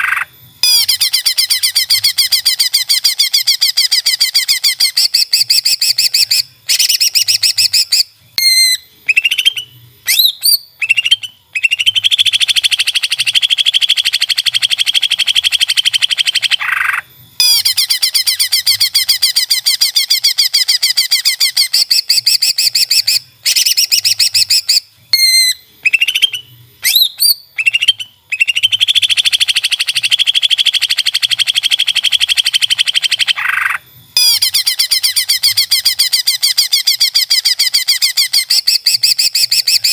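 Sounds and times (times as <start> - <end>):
bird singing chattering trills: 0.0 - 39.9
bird whistled notes: 0.0 - 39.9.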